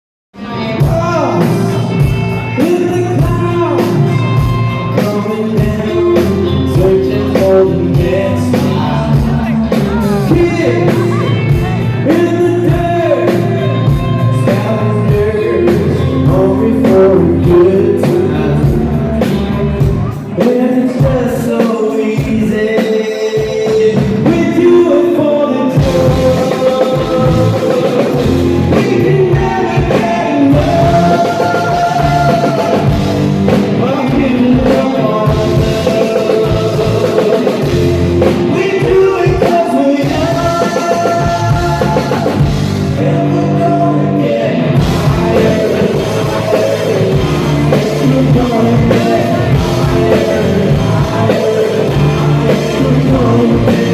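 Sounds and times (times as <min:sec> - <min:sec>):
drum kit: 0:00.4 - 0:53.9
electric guitar: 0:00.4 - 0:53.9
lead singer: 0:00.4 - 0:53.9
live rock band playing: 0:00.4 - 0:53.9.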